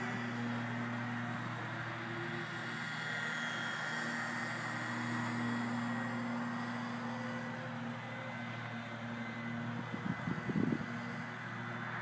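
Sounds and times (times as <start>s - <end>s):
toy helicopter rotor whirring: 0.0s - 12.0s.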